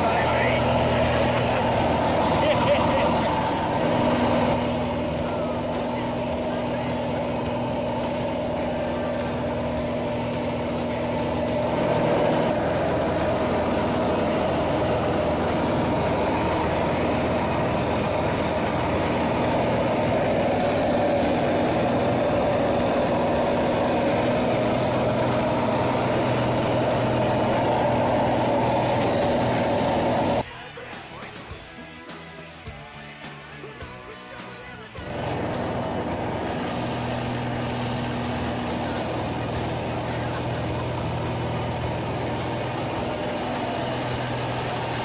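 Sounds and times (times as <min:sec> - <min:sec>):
rushing air: 0:00.0 - 0:30.4, 0:35.0 - 0:45.0
light aircraft engine and propeller: 0:00.0 - 0:45.0.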